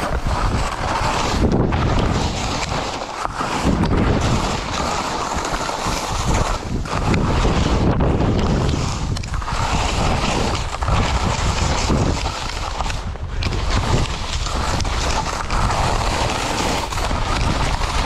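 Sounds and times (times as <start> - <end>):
skis hissing over snow: 0.0 - 18.0
wind buffeting microphone: 0.0 - 18.0.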